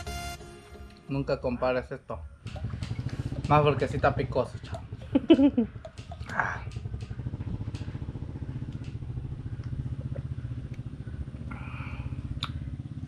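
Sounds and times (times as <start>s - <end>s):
small engine idling: 2.4s - 13.0s.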